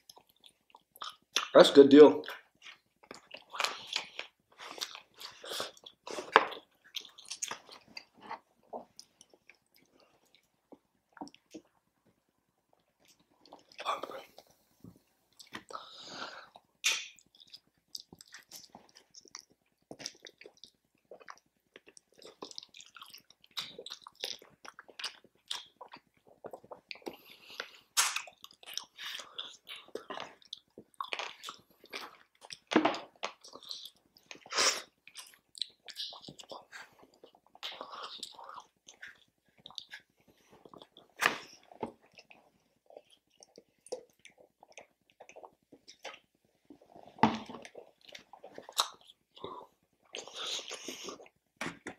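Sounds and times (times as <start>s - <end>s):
person chewing food: 0.0s - 1.6s, 2.2s - 51.9s.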